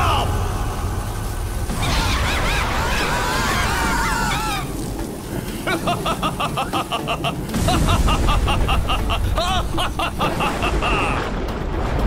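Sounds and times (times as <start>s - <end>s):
deep thunder rumble: 0.0s - 12.0s.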